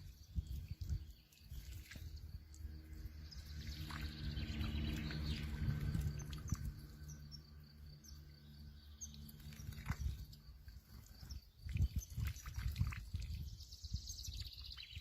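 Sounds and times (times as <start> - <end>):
low steady rumble: 0.0 - 14.7
small birds chirping: 0.0 - 15.0.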